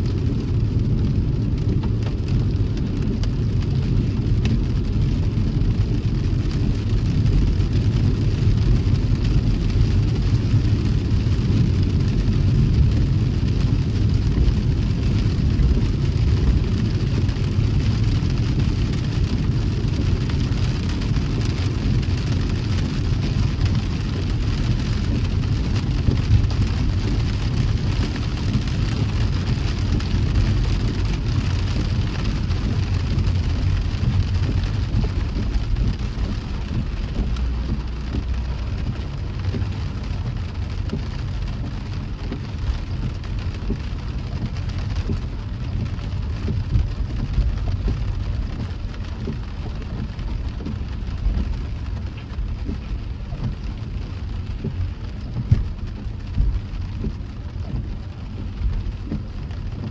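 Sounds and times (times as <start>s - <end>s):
car driving on wet road: 0.0s - 59.9s.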